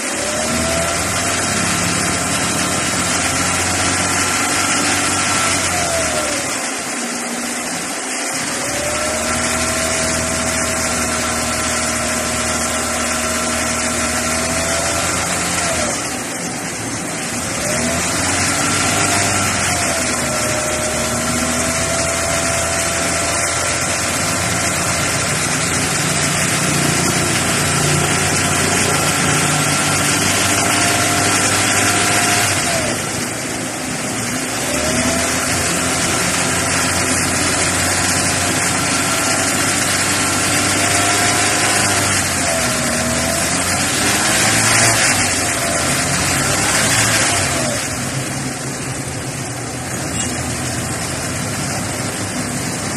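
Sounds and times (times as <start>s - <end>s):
car engine whining: 0.0s - 52.9s.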